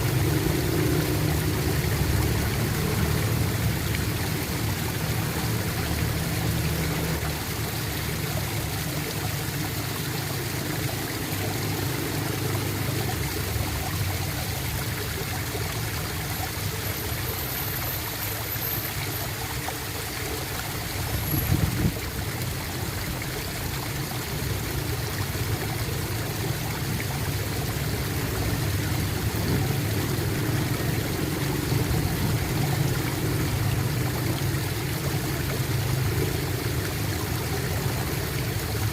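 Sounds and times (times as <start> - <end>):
water flowing and gurgling: 0.0 - 38.9.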